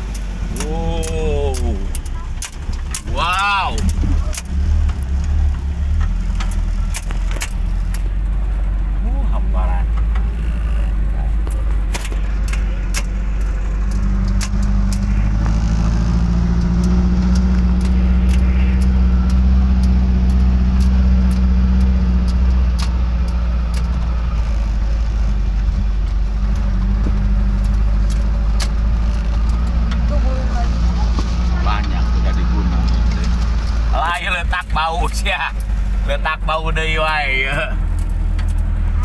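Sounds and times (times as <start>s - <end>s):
car engine running under load: 0.0s - 39.0s.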